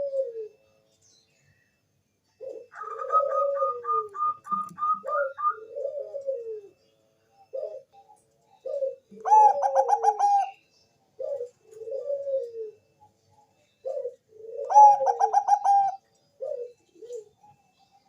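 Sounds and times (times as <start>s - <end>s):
dove cooing song: 0.0s - 0.6s, 2.3s - 18.0s.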